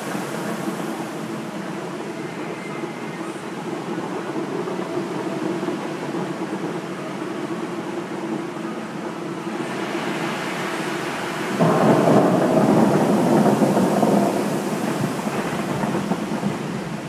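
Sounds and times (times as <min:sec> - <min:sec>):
fountain water rushing: 0:00.0 - 0:17.0.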